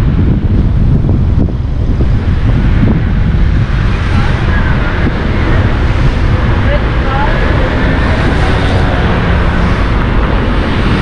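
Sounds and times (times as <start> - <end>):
car road and tyre noise: 0.0 - 11.0
wind buffeting microphone: 0.0 - 11.0.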